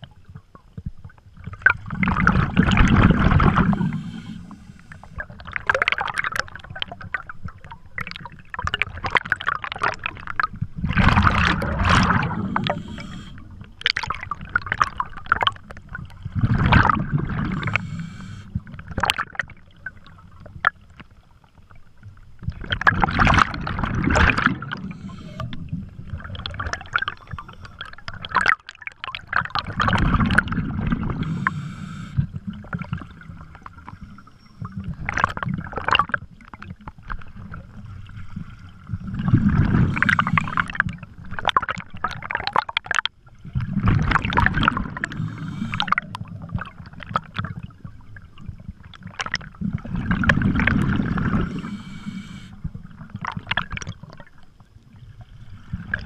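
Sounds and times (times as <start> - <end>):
exhaled bubbles underwater: 0.0 - 56.0.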